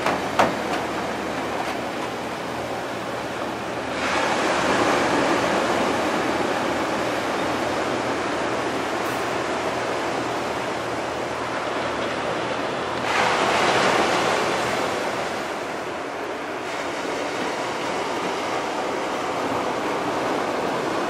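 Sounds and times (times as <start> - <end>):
gentle surf washing onto beach: 0.0 - 21.0
wave breaking: 0.0 - 21.0.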